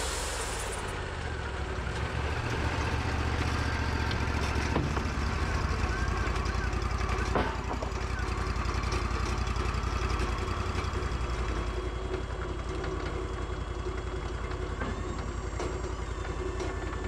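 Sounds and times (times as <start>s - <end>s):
sawmill engine idling: 0.0s - 17.0s.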